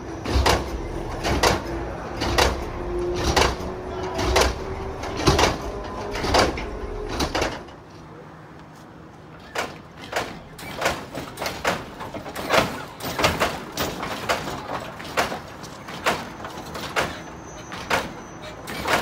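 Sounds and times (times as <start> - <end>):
hydraulic suspension clacks and bangs: 0.1 - 8.0, 9.4 - 19.0.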